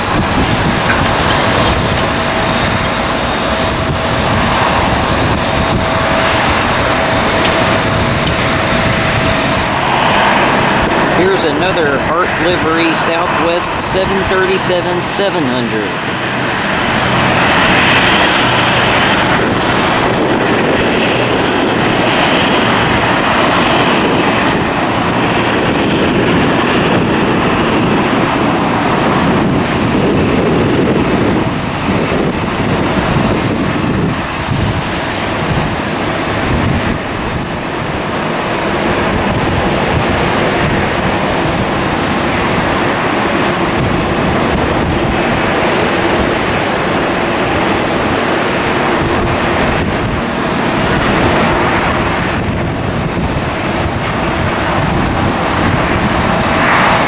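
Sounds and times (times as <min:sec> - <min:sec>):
wind buffeting microphone: 0:00.0 - 0:14.5, 0:15.8 - 0:57.0
jet engine rush: 0:00.0 - 0:57.0.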